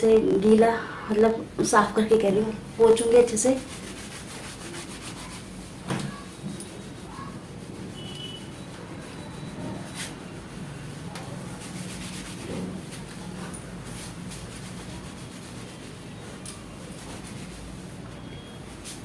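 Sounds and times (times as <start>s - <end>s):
towel rubbing wet hair: 1.6s - 19.0s.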